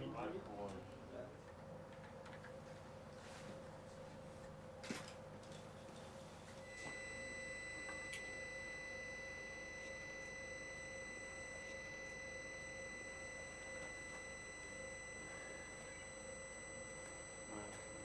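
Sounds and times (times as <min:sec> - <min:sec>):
low steady hum: 0:00.0 - 0:18.0
high whine of pure tones: 0:02.3 - 0:18.0.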